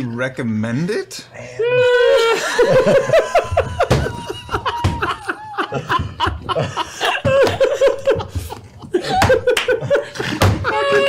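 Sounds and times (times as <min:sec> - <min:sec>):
people laughing: 0:01.8 - 0:11.0.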